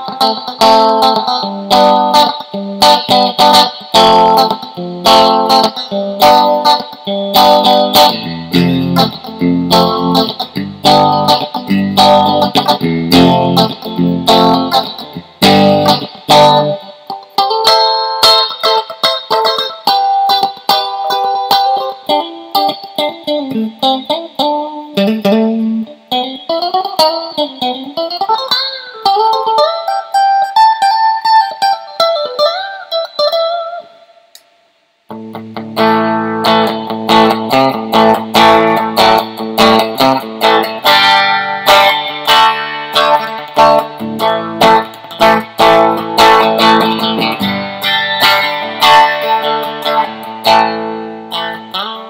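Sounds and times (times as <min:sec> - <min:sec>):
electric guitar picked chords: 0:00.0 - 0:34.2, 0:35.1 - 0:52.0
electric guitar lead lines: 0:00.0 - 0:52.0.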